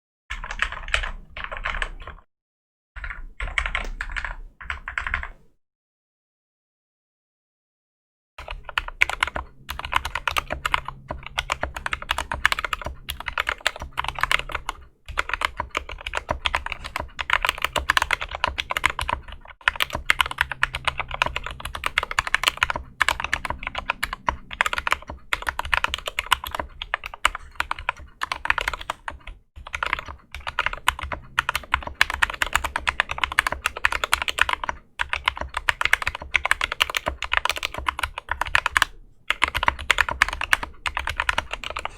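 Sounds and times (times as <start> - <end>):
fast mechanical keyboard typing: 0.3 - 2.3, 3.0 - 5.4, 8.4 - 41.9.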